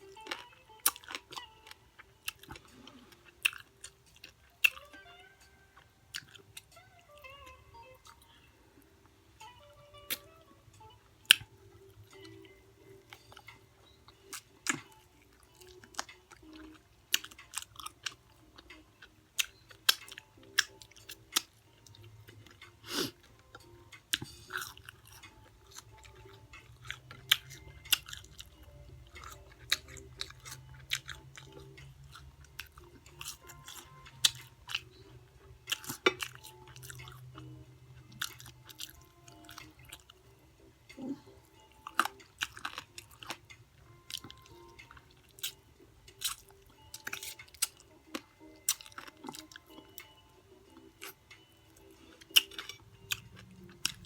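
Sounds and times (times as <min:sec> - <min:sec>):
chewing crispy fried chicken: 0:00.0 - 0:08.5, 0:13.1 - 0:54.0.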